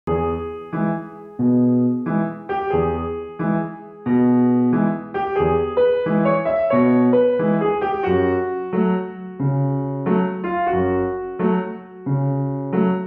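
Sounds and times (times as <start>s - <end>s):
gentle piano notes and chords: 0.1s - 13.0s.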